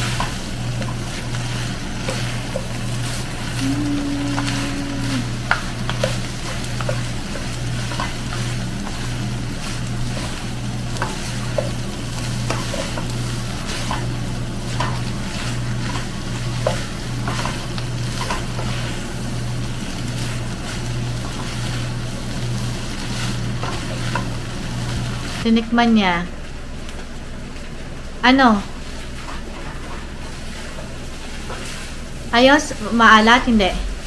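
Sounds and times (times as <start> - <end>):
noodles sizzling in a wok: 0.0 - 34.0
steady low hum: 0.0 - 34.0.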